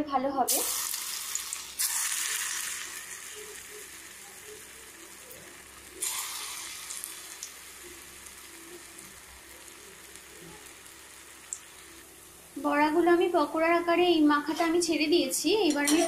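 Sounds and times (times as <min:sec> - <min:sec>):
frying hiss: 0:00.5 - 0:16.0
oil sizzling: 0:00.5 - 0:16.0.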